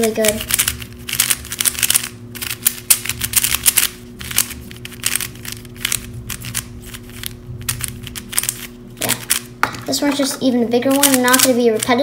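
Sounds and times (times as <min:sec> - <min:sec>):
puzzle cube clicking: 0:00.2 - 0:09.5, 0:10.9 - 0:12.0.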